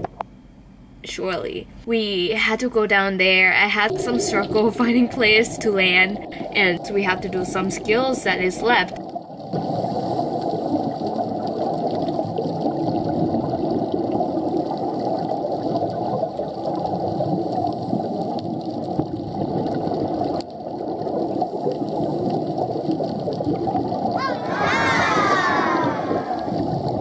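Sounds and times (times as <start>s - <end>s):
underwater bubbles gurgling: 3.2s - 27.0s.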